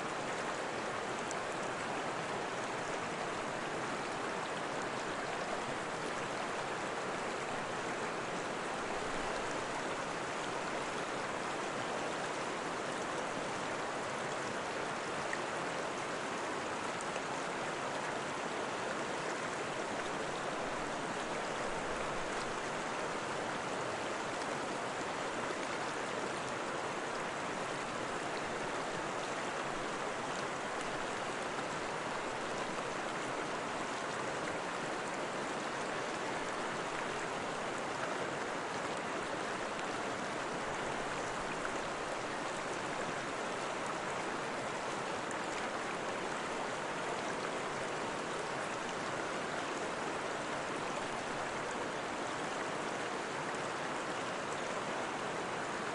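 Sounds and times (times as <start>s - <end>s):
running water: 0.0s - 55.9s.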